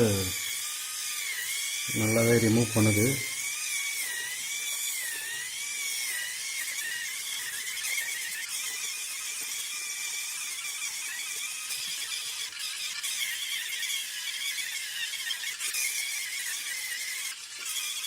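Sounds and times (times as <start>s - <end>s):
electric callus remover whining: 0.0s - 18.0s.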